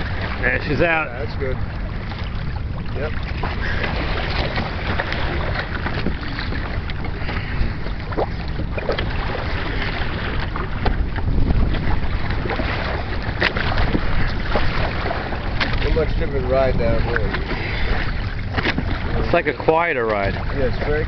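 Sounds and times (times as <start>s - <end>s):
steady low rumble: 0.0s - 21.0s
water splashing against hull: 0.0s - 21.0s
wind buffeting microphone: 0.0s - 21.0s.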